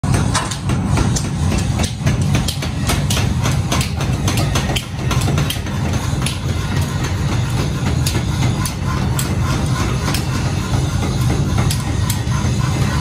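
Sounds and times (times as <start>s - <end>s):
sharp hammer strikes: 0.0s - 13.0s
power hammer drone: 0.1s - 13.0s.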